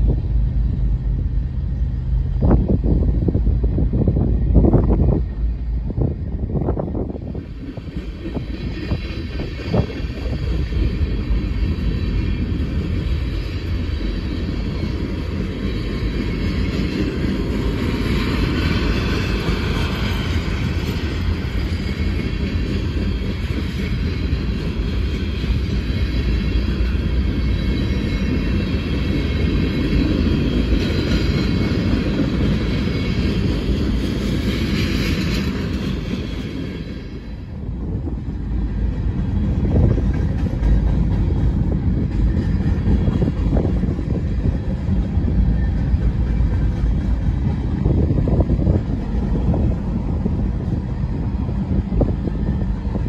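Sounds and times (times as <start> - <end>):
freight train wheels rumbling on rails: 0.0 - 53.0.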